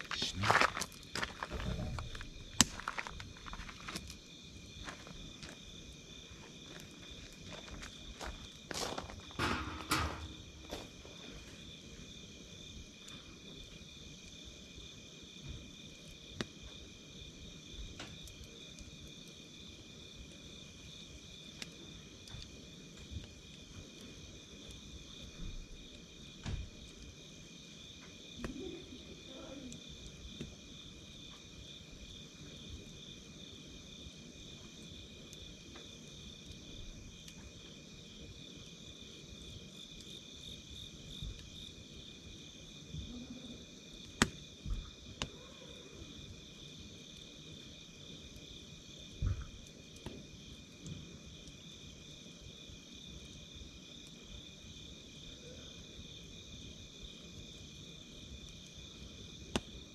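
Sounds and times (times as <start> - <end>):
campfire burning: 0.0 - 59.9
night insects chirping: 0.0 - 59.9.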